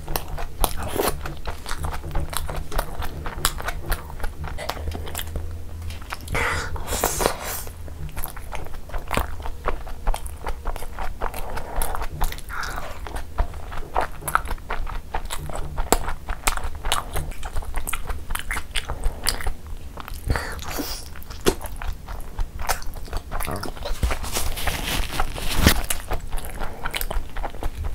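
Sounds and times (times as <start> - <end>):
chewing and biting food: 0.0 - 27.9.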